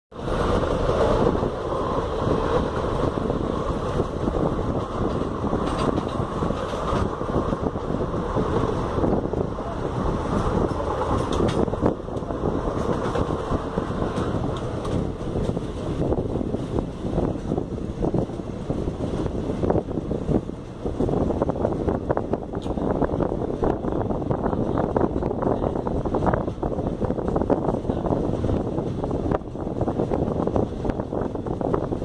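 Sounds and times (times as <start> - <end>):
train wheels rumbling on rails: 0.1 - 32.0
wind buffeting microphone: 0.1 - 32.0.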